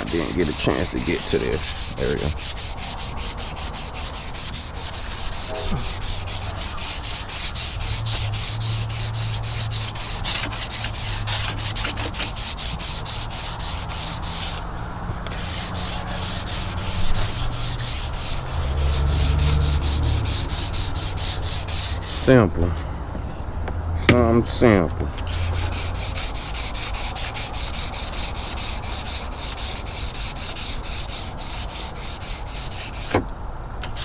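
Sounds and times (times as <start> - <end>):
sandpaper rubbing by hand: 0.0 - 22.4, 25.2 - 33.2.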